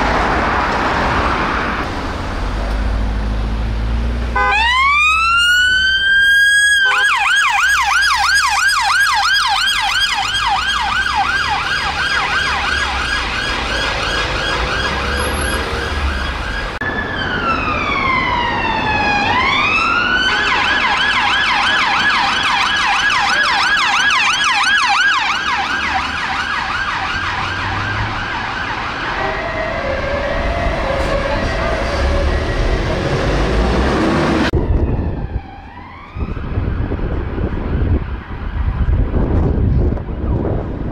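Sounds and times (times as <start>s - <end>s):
road and engine rumble: 0.0s - 40.9s
siren yelping: 4.4s - 33.4s, 34.0s - 38.7s.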